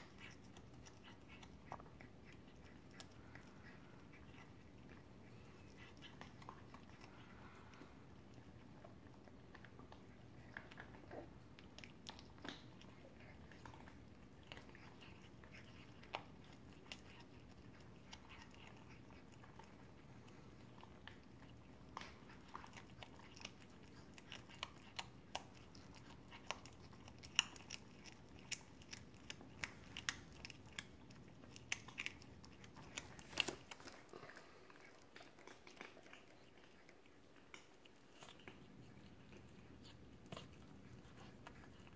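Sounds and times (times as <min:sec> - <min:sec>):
cat chewing crunches: 0:00.0 - 0:41.9.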